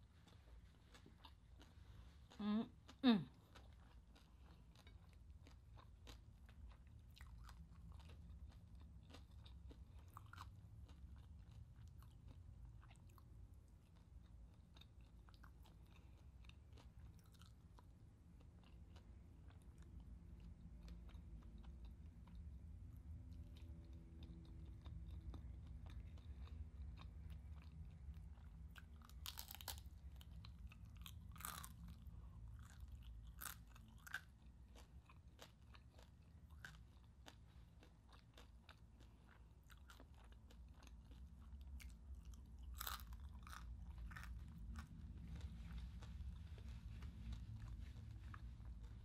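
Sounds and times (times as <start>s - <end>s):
person chewing crispy food: 0.0s - 49.0s.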